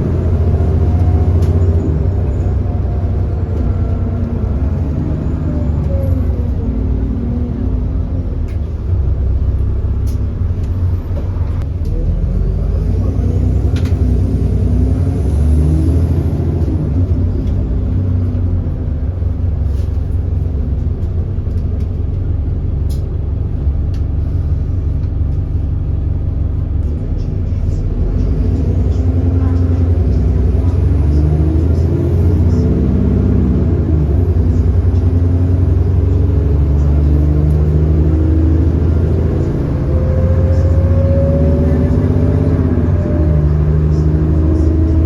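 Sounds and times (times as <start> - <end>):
bus diesel engine rumbling: 0.0 - 45.0.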